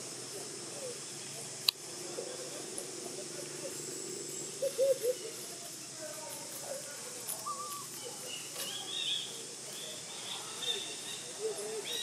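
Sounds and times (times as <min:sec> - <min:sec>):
loud cooing calls: 0:00.0 - 0:05.6, 0:07.4 - 0:12.0
high background hiss: 0:00.0 - 0:12.0
faint high chirping calls: 0:00.7 - 0:06.4, 0:07.1 - 0:12.0.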